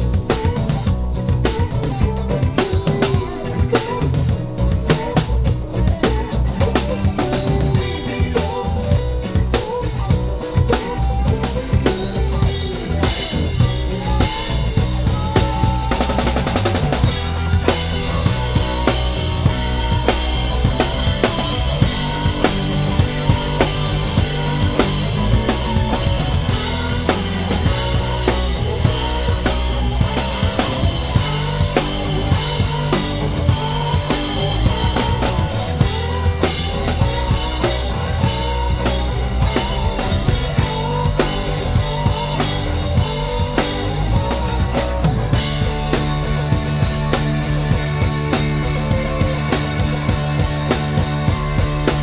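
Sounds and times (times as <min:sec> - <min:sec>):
drum kit groove: 0:00.0 - 0:52.0
live rock band playing: 0:00.0 - 0:52.0.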